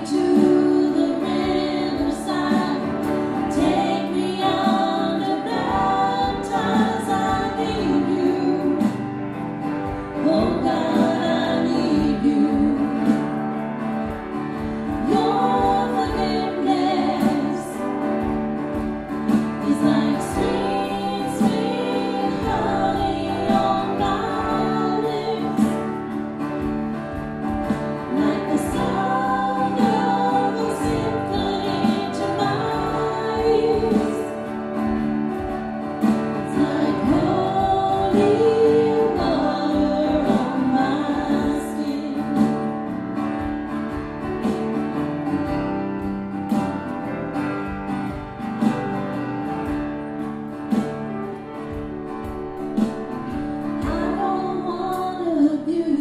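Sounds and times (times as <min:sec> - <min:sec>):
voices singing worship song: 0:00.0 - 0:44.7, 0:52.8 - 0:56.0
instrumental accompaniment: 0:00.0 - 0:56.0.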